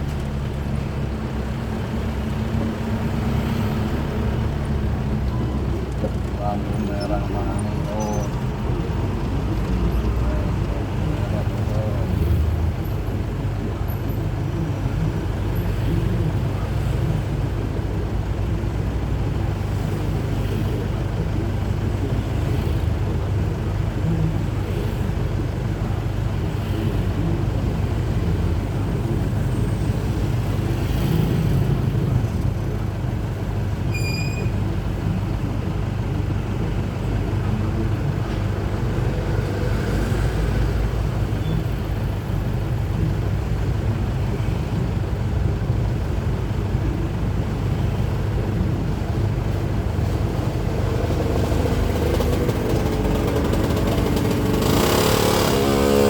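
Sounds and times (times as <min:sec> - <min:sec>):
road and traffic rumble: 0:00.0 - 0:56.0
truck engine running: 0:00.0 - 0:56.0.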